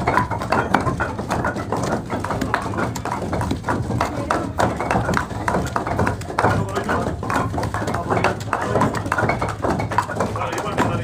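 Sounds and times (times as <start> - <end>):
wooden pestles pounding in stone mortars: 0.0 - 11.0.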